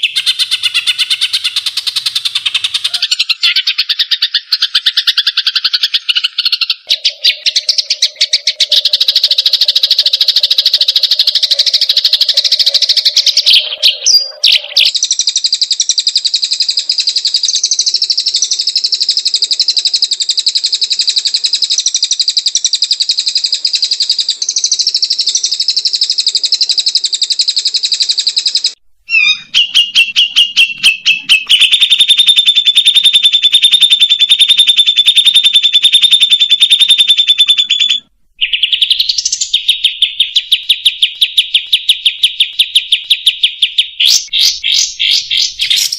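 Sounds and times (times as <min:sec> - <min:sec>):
sharp bird clicks: 0:00.0 - 0:45.9
songbird buzzy trills: 0:00.0 - 0:45.9.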